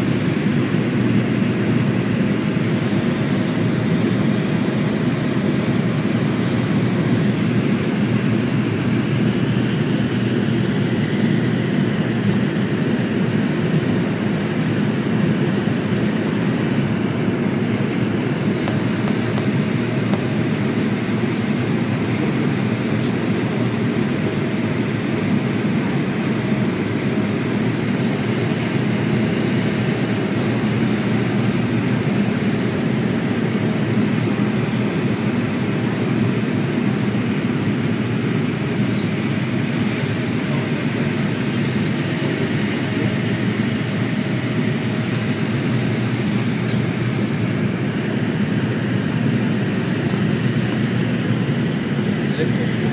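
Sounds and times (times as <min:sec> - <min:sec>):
airplane cabin noise: 0:00.0 - 0:52.9.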